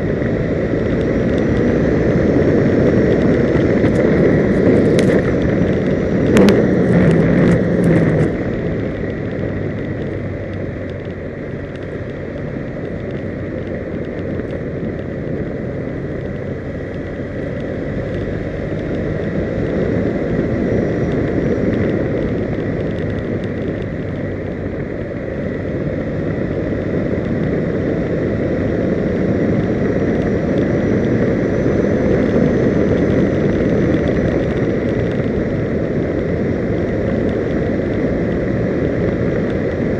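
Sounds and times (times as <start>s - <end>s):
tyre and road rumble: 0.0s - 39.9s
wind on microphone: 0.0s - 39.9s.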